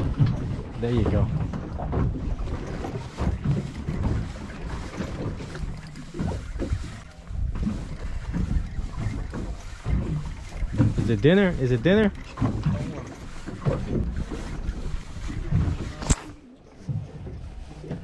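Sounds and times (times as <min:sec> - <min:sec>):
water sloshing against hull: 0:00.0 - 0:18.0
wind buffeting microphone: 0:00.0 - 0:18.0.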